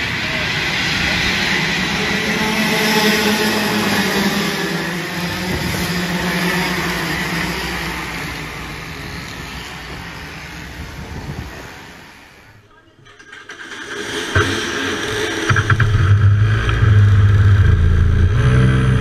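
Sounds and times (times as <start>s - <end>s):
kart engines racing: 0.0s - 19.0s.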